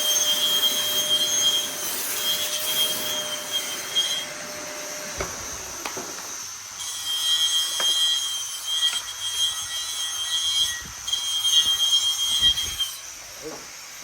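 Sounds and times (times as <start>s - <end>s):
power tool whining: 0.0s - 13.7s.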